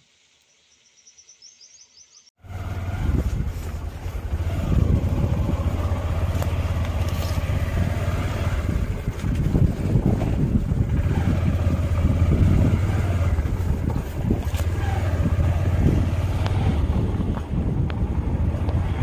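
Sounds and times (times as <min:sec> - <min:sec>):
motorcycle engine running: 0:02.4 - 0:19.0
wind rumbling on microphone: 0:02.6 - 0:19.0.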